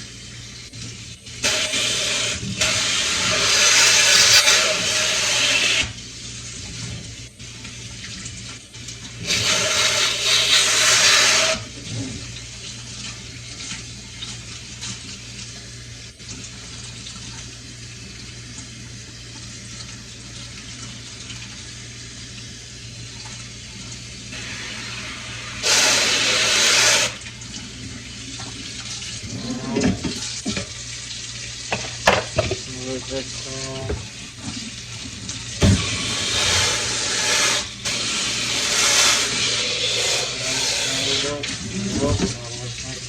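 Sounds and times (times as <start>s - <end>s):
water running: 0.0s - 43.0s.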